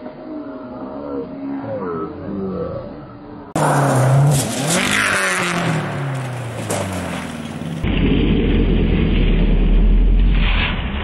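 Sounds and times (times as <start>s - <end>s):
rally car engine at high revs: 0.0s - 9.4s.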